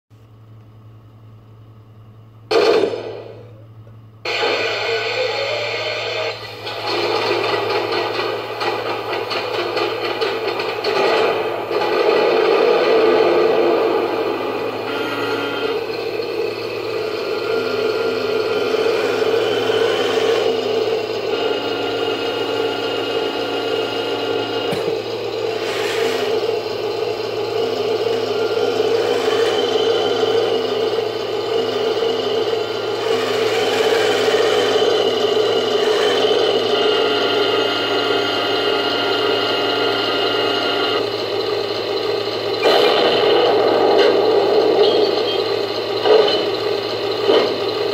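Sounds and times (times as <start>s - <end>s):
gears and tracks whirring: 0.3s - 47.9s
toy tank mechanical hum: 4.2s - 47.9s.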